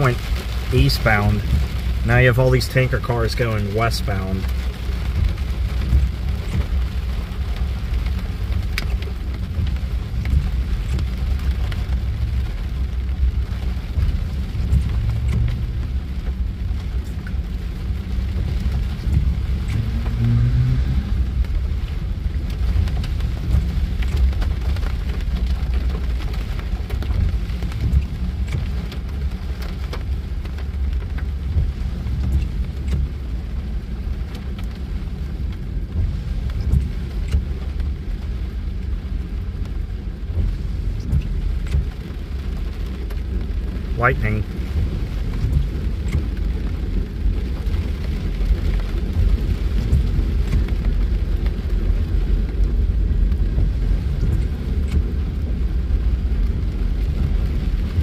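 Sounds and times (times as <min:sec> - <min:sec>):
heavy rain on car: 0:00.0 - 0:58.0.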